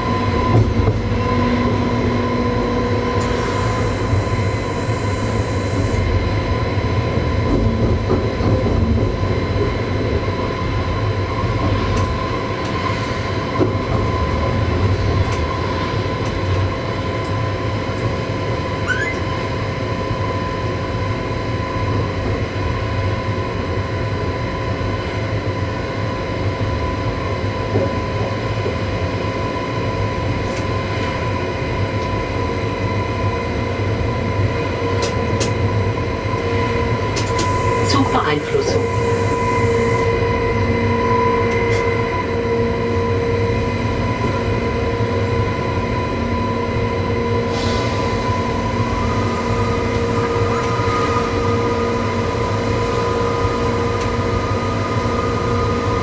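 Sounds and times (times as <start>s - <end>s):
train rumbling on track: 0.0s - 56.0s.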